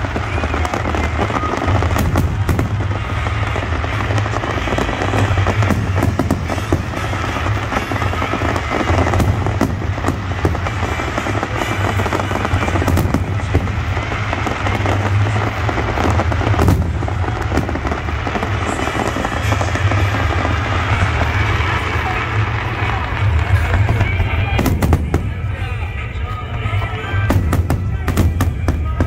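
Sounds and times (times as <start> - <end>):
fireworks bangs and crackles: 0.0 - 29.0
heavy low rumble: 0.0 - 29.0.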